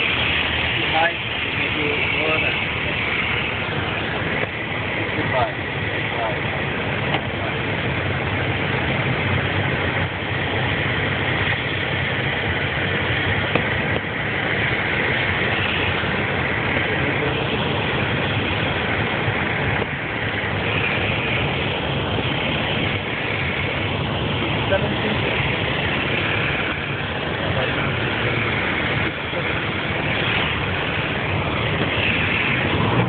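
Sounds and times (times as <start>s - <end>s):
light aircraft engine drone: 0.0s - 33.0s
rush of air: 0.0s - 33.0s.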